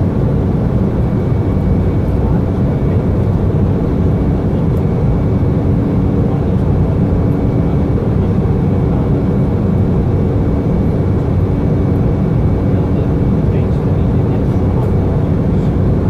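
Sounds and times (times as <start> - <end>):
jet airliner cabin noise: 0.0 - 16.0.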